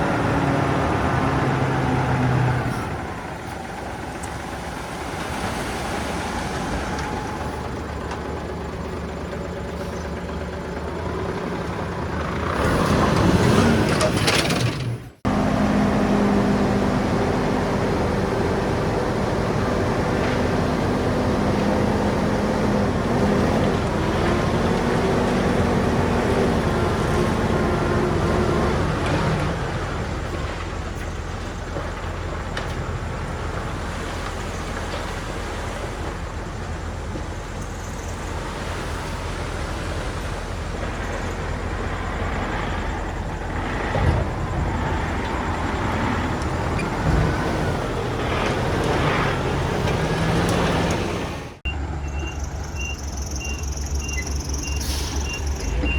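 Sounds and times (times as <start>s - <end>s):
diesel machinery engine droning: 0.0s - 55.9s.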